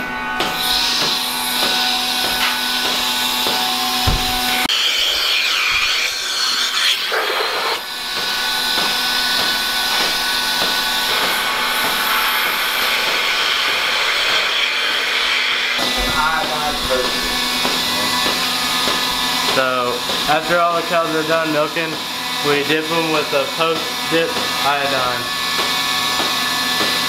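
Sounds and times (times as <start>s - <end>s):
vacuum pump hiss and hum: 0.0s - 27.0s.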